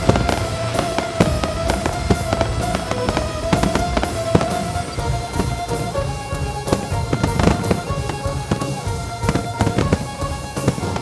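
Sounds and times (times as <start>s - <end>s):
fireworks bangs and crackles: 0.0s - 11.0s
music with held tones: 0.0s - 11.0s.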